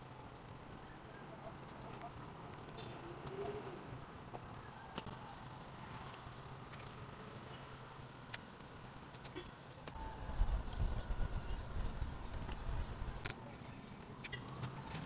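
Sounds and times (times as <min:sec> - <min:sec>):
leaves rustling and clicking: 0:00.0 - 0:15.0.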